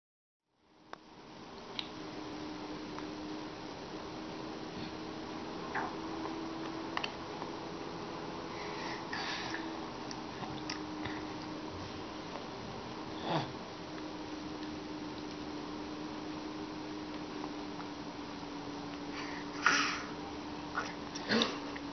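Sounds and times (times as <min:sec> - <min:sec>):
faint steady hum: 0:00.5 - 0:21.9.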